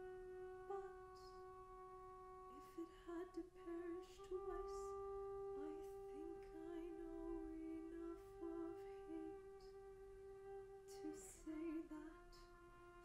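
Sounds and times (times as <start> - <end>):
soprano voice holding a note: 0.0 - 13.0.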